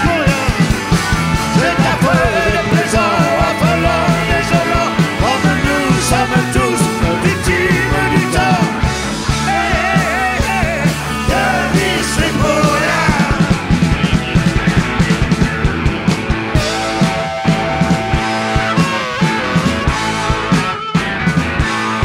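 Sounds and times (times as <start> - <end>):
men singing and shouting: 0.0 - 15.1, 16.5 - 20.3
drums: 0.0 - 22.0
electric guitar: 0.0 - 22.0.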